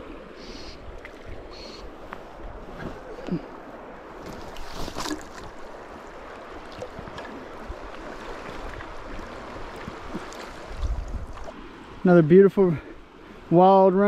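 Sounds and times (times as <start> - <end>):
wind rumbling on microphone: 0.0 - 11.6
creek water flowing: 0.0 - 14.0.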